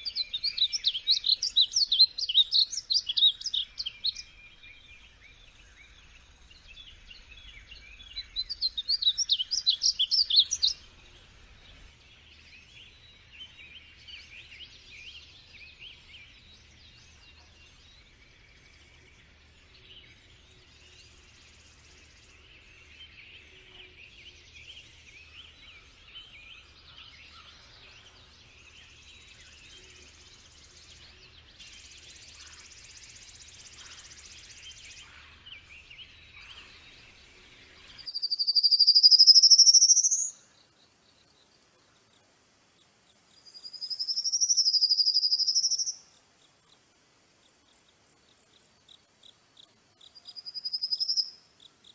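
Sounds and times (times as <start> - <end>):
rapid trilling bird song: 0.0 - 42.1, 42.8 - 46.8, 47.5 - 51.9
birds chirping and twittering: 0.0 - 51.9.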